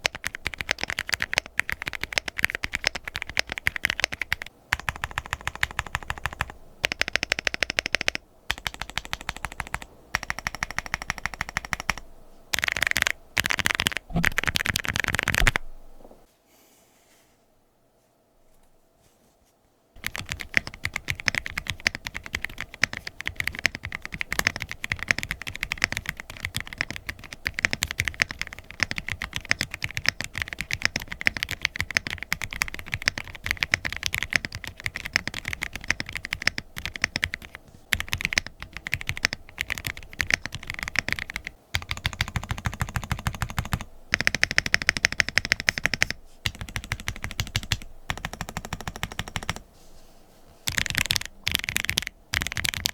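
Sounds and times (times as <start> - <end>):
mechanical keyboard typing: 0.0 - 15.7, 20.0 - 49.6, 50.7 - 52.9.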